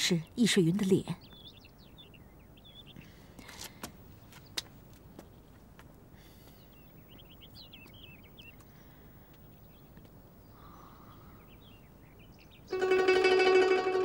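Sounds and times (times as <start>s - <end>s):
small birds chirping: 0.0s - 13.6s
low steady background noise: 0.0s - 14.0s.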